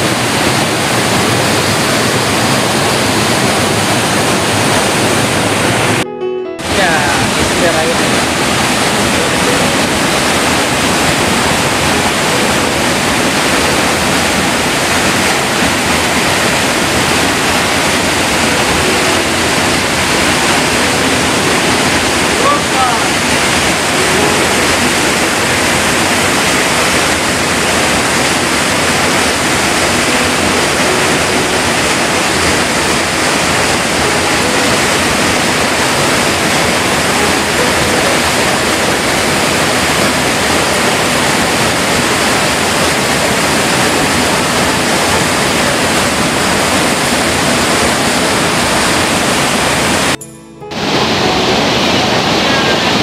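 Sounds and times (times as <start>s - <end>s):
waterfall over rocks: 0.0s - 6.0s, 6.7s - 53.0s.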